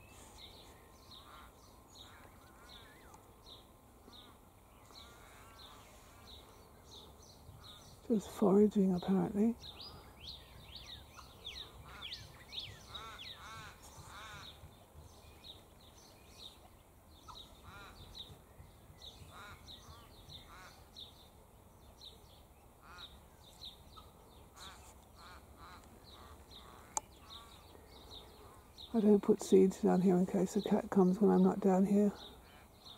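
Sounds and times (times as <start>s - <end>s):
harsh lower bird calls: 0.0s - 29.2s
birds chirping: 0.0s - 32.9s.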